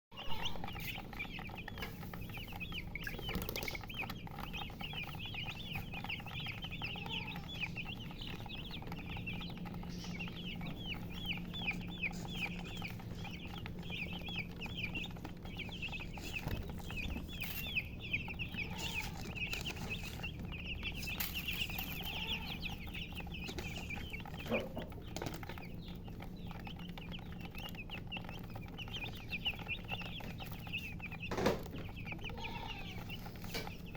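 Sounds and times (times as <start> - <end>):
baby chicks peeping: 0.1 - 33.9.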